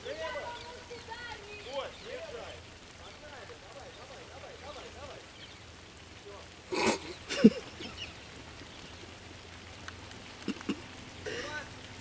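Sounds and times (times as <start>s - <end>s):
light rain hissing: 0.0s - 12.0s.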